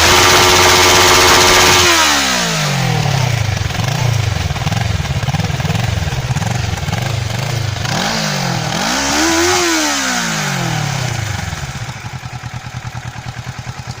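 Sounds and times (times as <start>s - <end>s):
motorcycle engine idling and revving: 0.0s - 14.0s.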